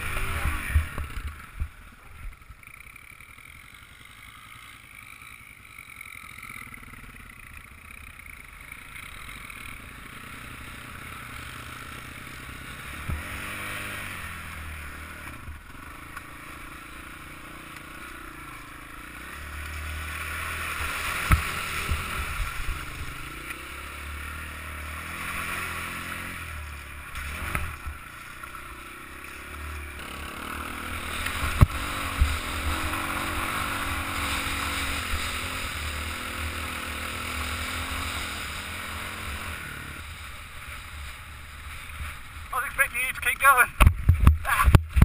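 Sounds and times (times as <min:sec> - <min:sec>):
motorbike engine running: 0:00.0 - 0:45.0.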